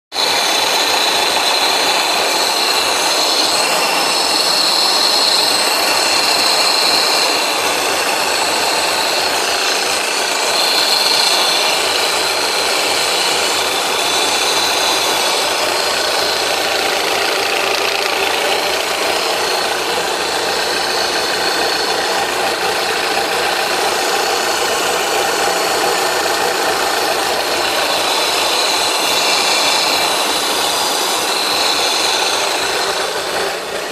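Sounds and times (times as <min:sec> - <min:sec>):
car engine running: 0:00.1 - 0:33.9
throttle actuator sawing noise: 0:00.1 - 0:33.9.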